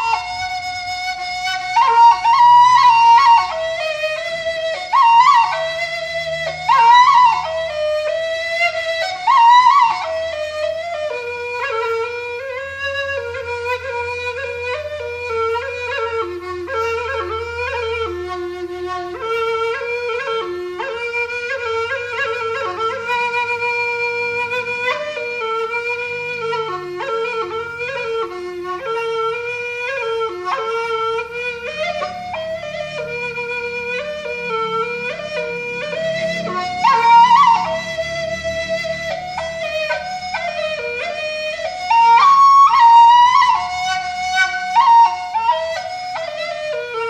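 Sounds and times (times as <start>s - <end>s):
bamboo flute melody: 0.0s - 47.0s.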